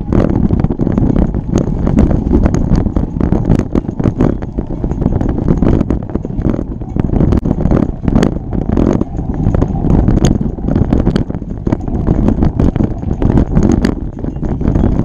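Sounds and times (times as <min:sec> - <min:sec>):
bike rattling over ground: 0:00.0 - 0:15.0
wind rumbling on microphone: 0:00.0 - 0:15.0.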